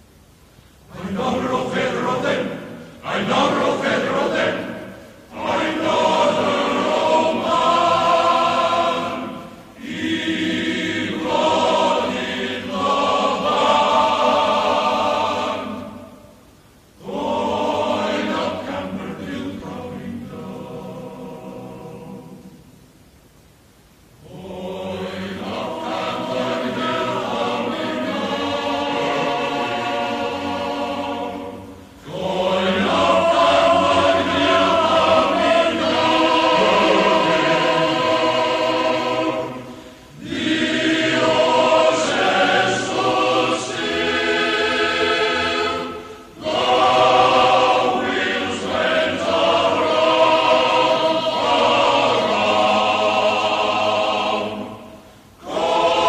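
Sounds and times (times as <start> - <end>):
choir singing: 0.9 - 22.8, 24.2 - 56.0.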